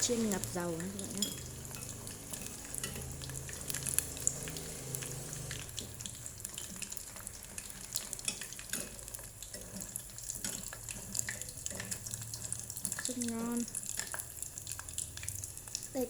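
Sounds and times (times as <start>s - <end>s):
shrimp deep-frying in oil: 0.0s - 16.0s.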